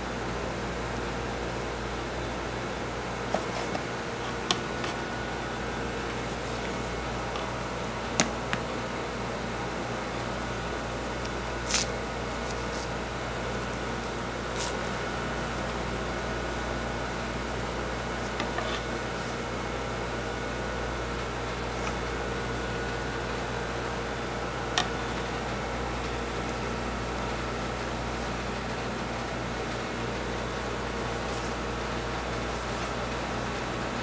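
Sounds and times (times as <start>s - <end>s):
fan humming: 0.0s - 34.0s.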